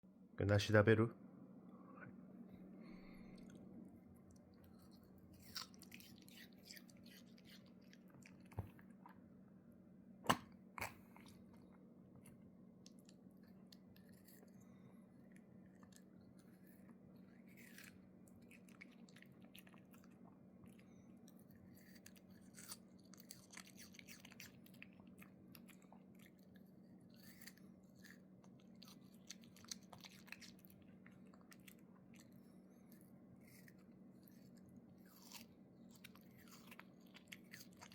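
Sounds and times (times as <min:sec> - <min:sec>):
steady low hum: 0:00.1 - 0:37.9
dog chewing and crunching: 0:04.3 - 0:09.0, 0:10.3 - 0:37.9.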